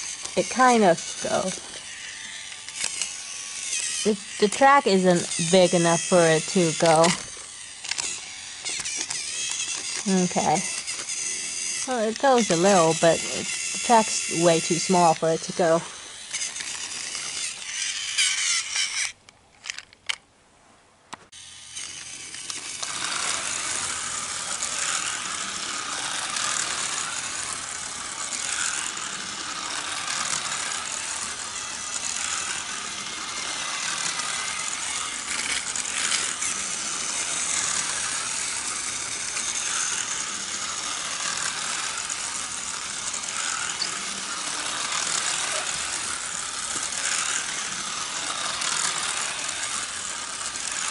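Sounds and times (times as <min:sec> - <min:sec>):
toy motors whirring and rattling: 0:00.0 - 0:20.2, 0:21.3 - 0:50.9.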